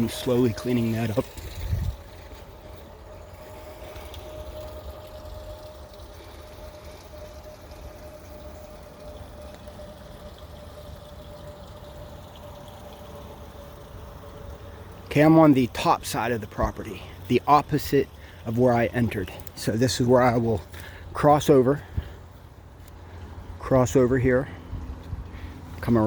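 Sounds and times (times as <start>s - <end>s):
faint steady hum: 0.0s - 26.0s
water running and trickling: 0.0s - 26.0s.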